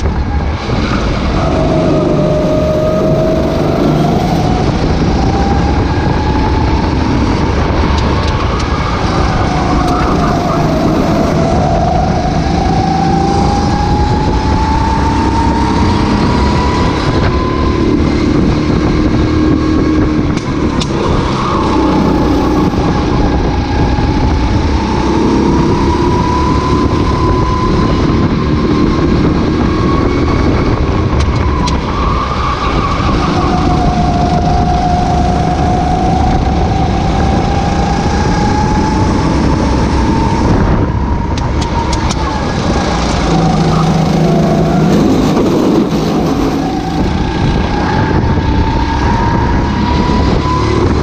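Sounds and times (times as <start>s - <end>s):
kart engine racing: 0.0s - 51.0s
wind noise: 0.0s - 51.0s.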